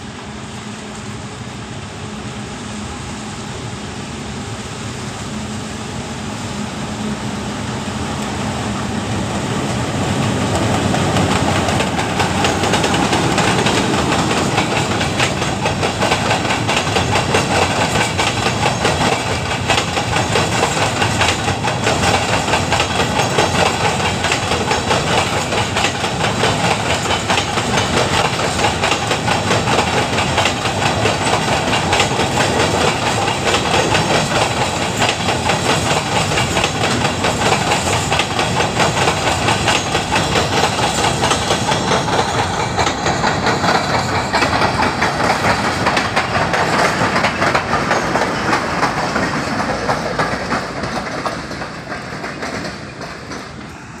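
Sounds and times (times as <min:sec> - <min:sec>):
train wheels clattering over rails: 0:08.0 - 0:54.0.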